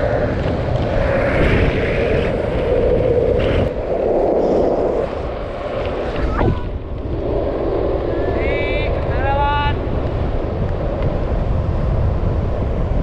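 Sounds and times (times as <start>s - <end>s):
skateboard wheels rolling on asphalt: 0.0s - 13.0s
wind rushing over microphone: 0.0s - 13.0s.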